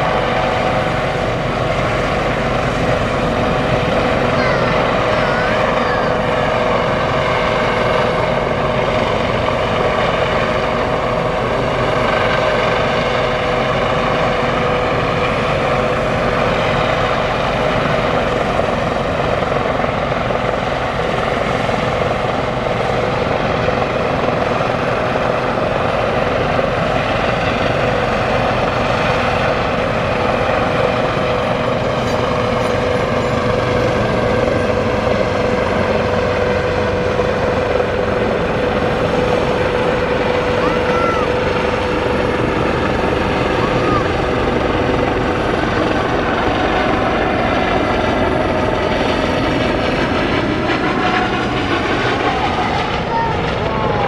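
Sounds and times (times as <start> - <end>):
heavy engines running: 0.0 - 54.0.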